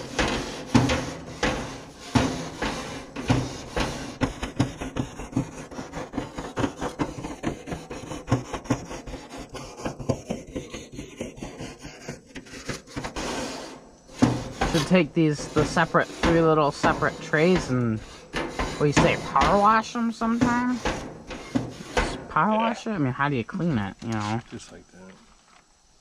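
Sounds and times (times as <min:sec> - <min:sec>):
wire brush scraping grill grates: 0:00.0 - 0:22.9.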